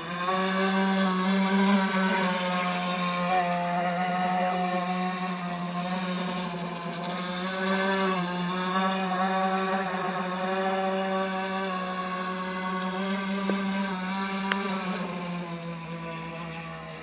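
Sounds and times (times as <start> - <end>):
rc boat motor buzzing: 0.0 - 17.0.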